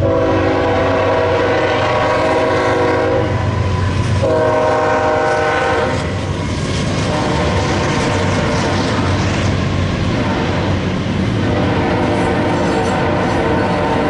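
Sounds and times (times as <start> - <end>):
train horn blast: 0.0 - 6.2, 7.0 - 9.0, 10.1 - 10.8, 11.4 - 14.0
diesel locomotives rumbling: 0.0 - 14.0.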